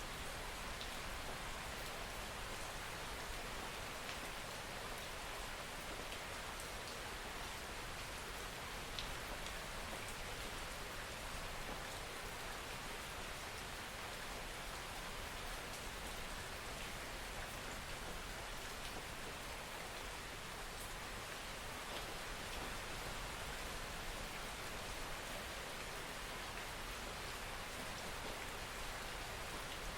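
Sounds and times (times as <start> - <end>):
soft rain hiss: 0.0 - 29.9.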